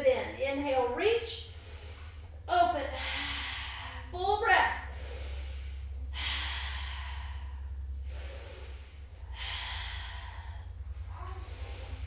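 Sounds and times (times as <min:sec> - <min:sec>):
low steady hum: 0:00.0 - 0:12.0
woman breathing deeply: 0:01.2 - 0:12.0.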